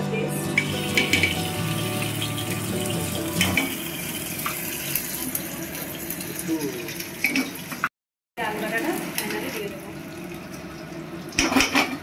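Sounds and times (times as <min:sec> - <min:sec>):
food sizzling in oil: 0:00.4 - 0:12.0.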